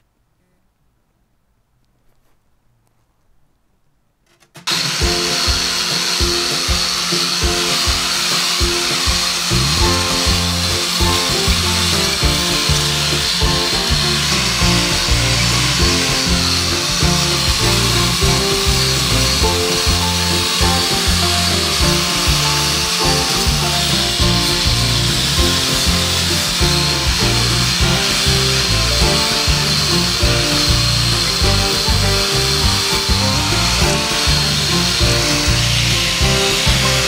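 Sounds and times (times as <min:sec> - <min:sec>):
angle grinder grinding metal: 0:04.3 - 0:37.0
background music: 0:04.7 - 0:37.0.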